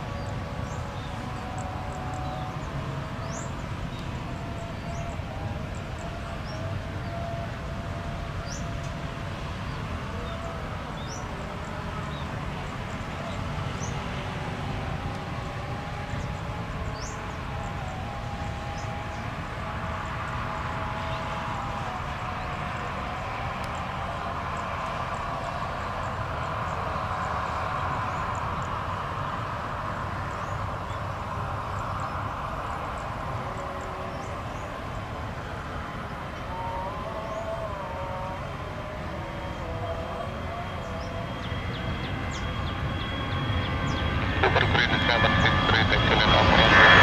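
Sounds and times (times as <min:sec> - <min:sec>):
jet engine rumble and whine: 0:00.0 - 0:47.0.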